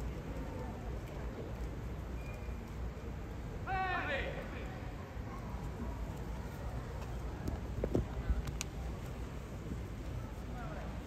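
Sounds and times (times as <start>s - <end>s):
ballpark background rumble: 0.0s - 11.0s.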